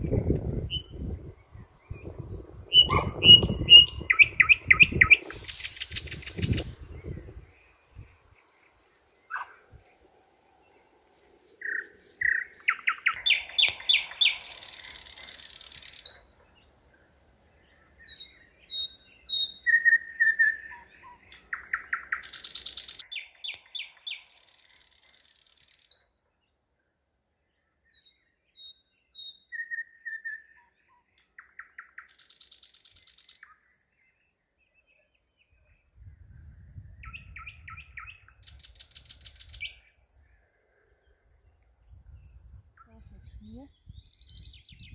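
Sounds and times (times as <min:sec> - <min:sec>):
nightingale singing: 0:00.0 - 0:26.6, 0:27.4 - 0:44.9.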